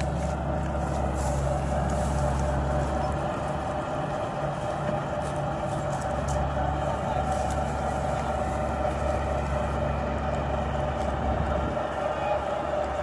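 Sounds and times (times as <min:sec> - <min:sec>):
farm machinery engines humming: 0:00.0 - 0:13.0.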